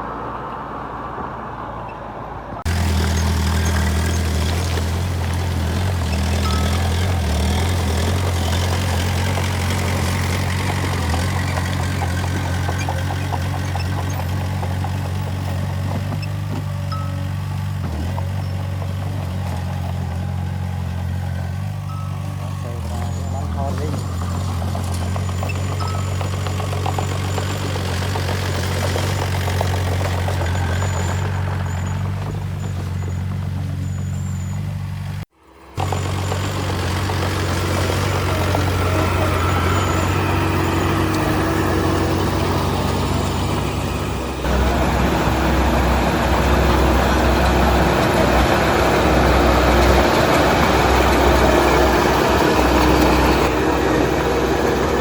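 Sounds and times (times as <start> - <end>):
heavy diesel machinery engine: 2.6 - 55.0.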